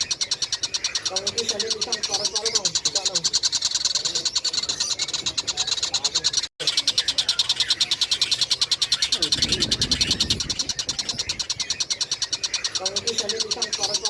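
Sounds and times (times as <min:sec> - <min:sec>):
kingfisher chattering call: 0:00.0 - 0:14.0.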